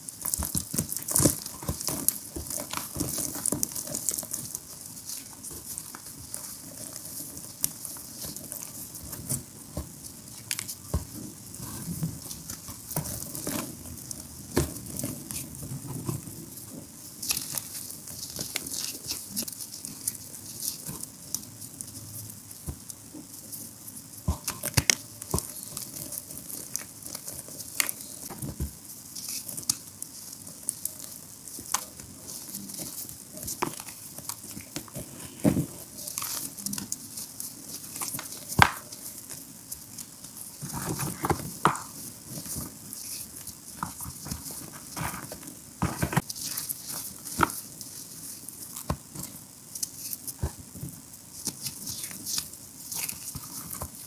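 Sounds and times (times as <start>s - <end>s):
hands crushing chalk: 0.0s - 54.0s.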